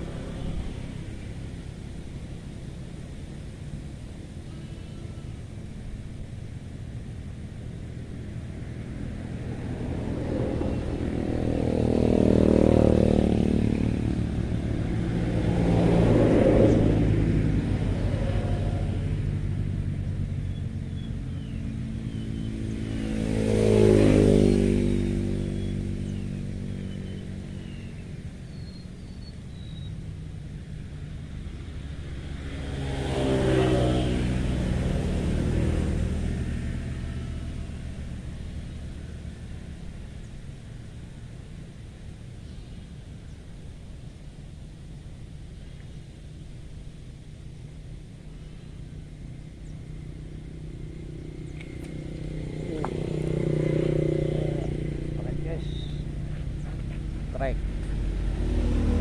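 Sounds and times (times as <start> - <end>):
low traffic rumble: 0.0 - 59.0
vehicles passing: 0.0 - 59.0.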